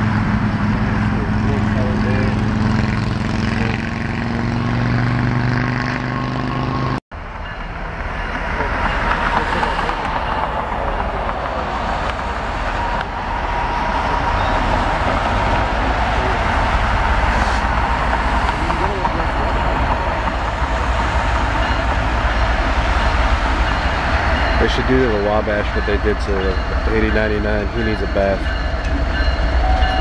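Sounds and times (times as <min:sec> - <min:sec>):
diesel locomotive engine rumble: 0:00.0 - 0:30.0.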